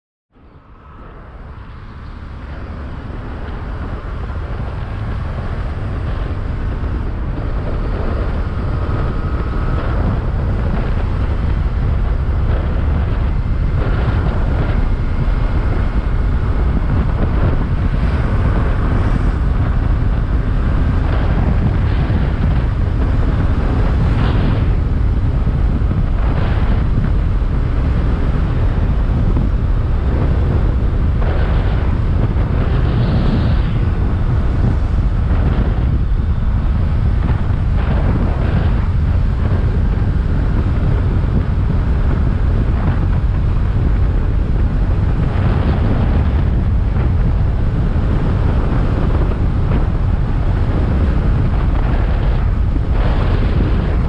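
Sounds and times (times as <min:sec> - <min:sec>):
wind buffeting microphone: 0:00.4 - 0:54.0.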